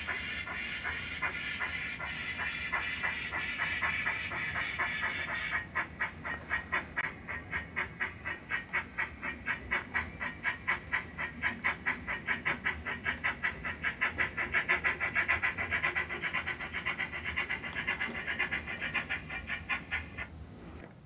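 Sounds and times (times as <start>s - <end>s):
model train steam chuff: 0.0s - 20.3s.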